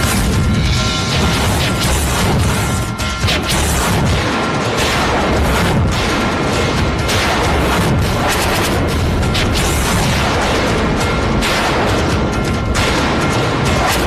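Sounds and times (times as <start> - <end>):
crashing hits and booms: 0.0 - 14.0
dramatic music: 0.0 - 14.0.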